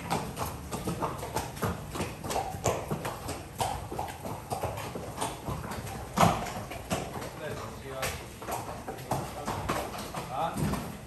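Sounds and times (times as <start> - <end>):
hooves clip-clopping on concrete: 0.0 - 11.0.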